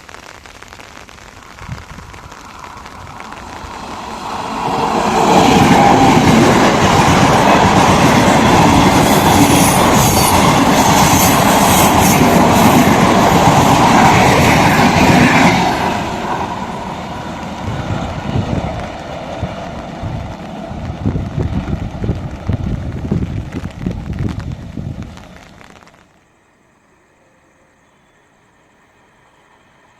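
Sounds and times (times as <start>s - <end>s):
passenger train passing at speed: 1.4s - 29.9s.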